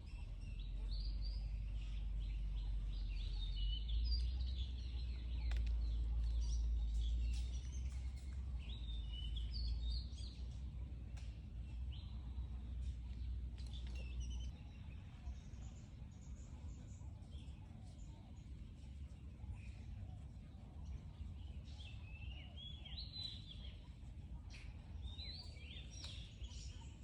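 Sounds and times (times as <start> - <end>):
birds chirping: 0.0 - 27.0
steady low rumble: 0.0 - 27.0.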